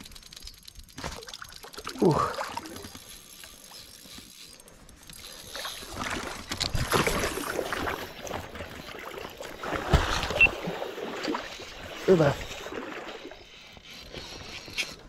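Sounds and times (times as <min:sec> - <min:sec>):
fish thrashing and splashing: 0:00.1 - 0:14.7.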